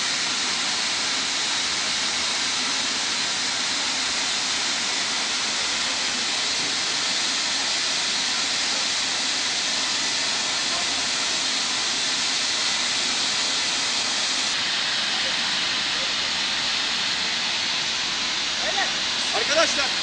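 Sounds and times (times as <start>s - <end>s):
gas hissing from burst pipe: 0.0s - 20.0s.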